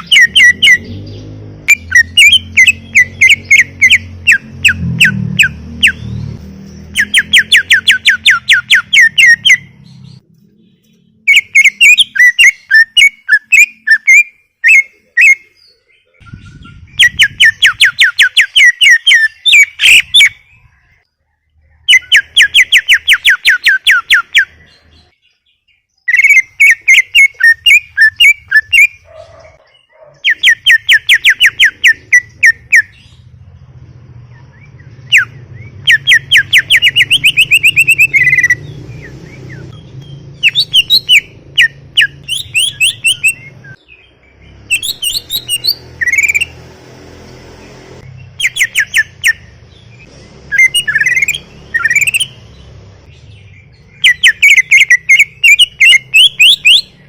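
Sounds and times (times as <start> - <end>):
bird singing whistled notes: 0.0 - 46.7, 47.6 - 57.0.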